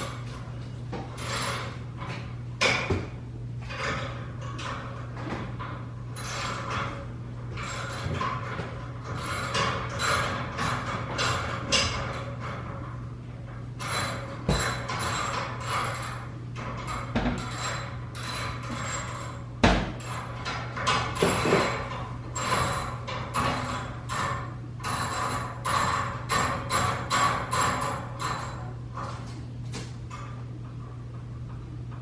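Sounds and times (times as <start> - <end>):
knocks and clatters of tools: 0.0 - 13.0, 13.6 - 32.0
steady low hum: 0.0 - 32.0.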